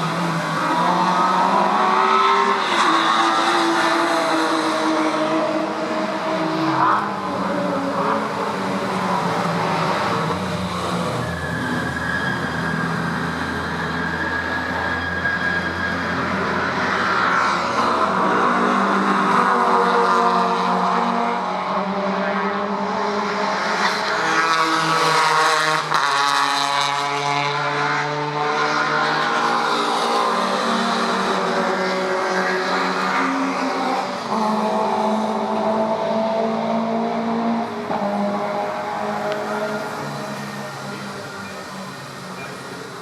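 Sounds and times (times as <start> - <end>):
race cars passing at high revs: 0.0 - 43.0.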